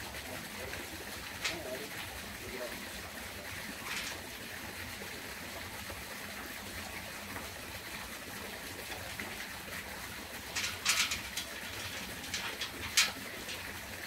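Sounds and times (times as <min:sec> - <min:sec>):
rushing water-like hiss: 0:00.0 - 0:14.0.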